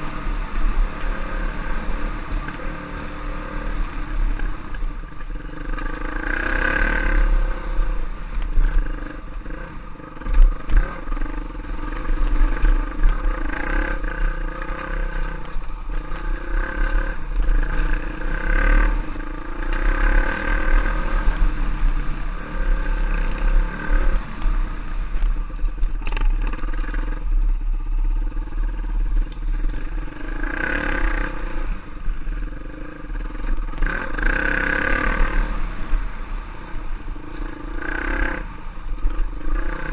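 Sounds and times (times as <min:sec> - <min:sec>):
steady low rumble: 0:00.0 - 0:39.9
trail bike engine revving: 0:00.0 - 0:39.9.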